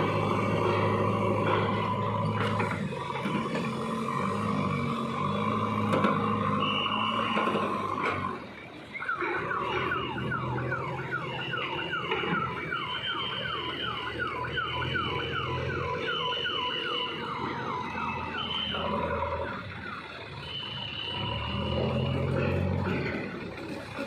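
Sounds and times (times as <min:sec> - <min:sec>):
falling siren alarm tone: 0:00.0 - 0:24.0.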